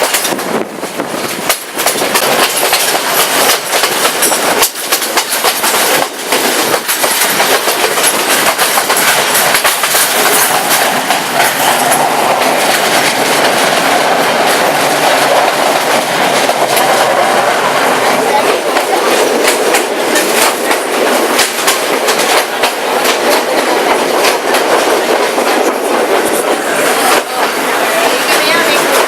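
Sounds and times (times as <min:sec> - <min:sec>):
train wheels clattering over rails: 0:00.0 - 0:29.0.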